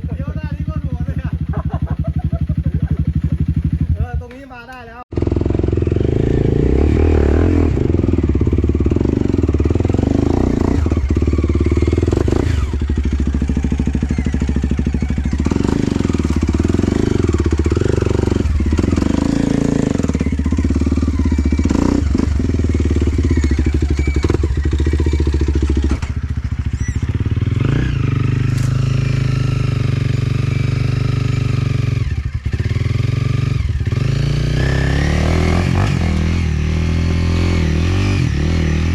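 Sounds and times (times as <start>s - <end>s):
dirt bike engine revving: 0.0s - 4.3s, 5.1s - 38.9s.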